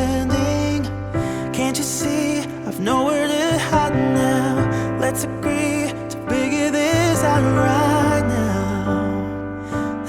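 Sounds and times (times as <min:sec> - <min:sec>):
slow sad pop ballad: 0:00.0 - 0:10.0.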